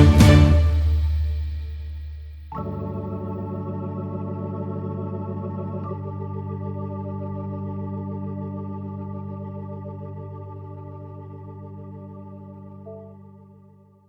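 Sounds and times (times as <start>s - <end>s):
organ keyboard chords: 0.0s - 1.2s, 2.5s - 13.8s.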